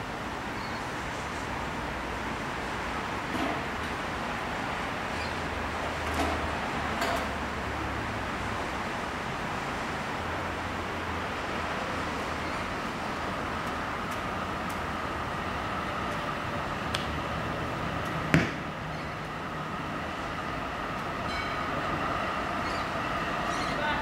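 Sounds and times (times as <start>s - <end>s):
distant road traffic: 0.0s - 24.0s.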